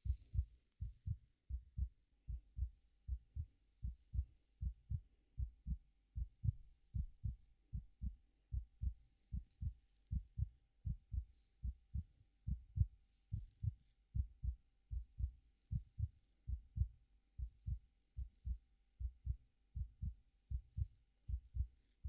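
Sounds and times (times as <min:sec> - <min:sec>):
heartbeat thumps: 0:00.0 - 0:21.8.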